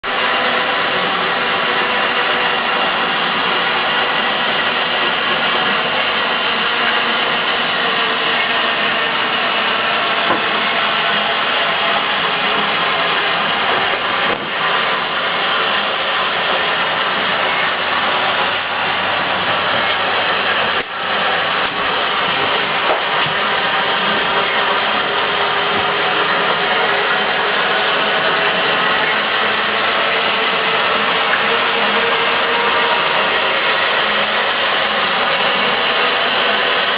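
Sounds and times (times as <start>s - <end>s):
motor and gears running: 0.0s - 36.9s.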